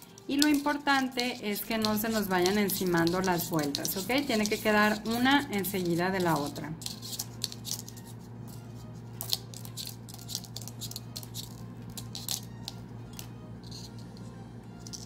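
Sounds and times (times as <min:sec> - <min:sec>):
thin wire ticking and scraping: 0:00.0 - 0:08.0, 0:09.2 - 0:14.2.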